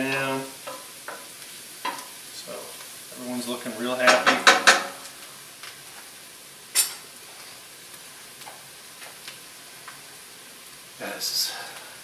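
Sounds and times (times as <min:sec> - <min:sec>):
mushrooms sizzling in a pot: 0:00.0 - 0:12.0.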